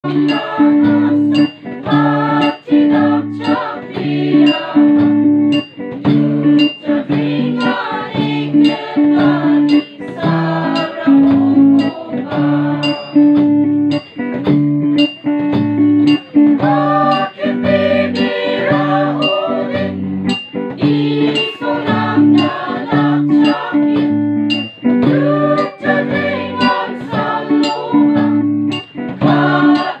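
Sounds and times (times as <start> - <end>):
choir singing: 0.0 - 5.3, 6.0 - 13.4, 16.5 - 20.1, 20.8 - 30.0
plucked guitar: 0.0 - 30.0
steady beat: 0.0 - 30.0.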